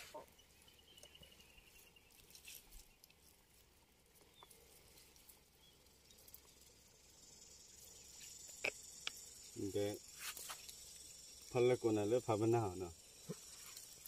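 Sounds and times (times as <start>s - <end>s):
faint high insect buzz: 0.0s - 14.0s
soft ticks and rustles: 0.0s - 14.0s.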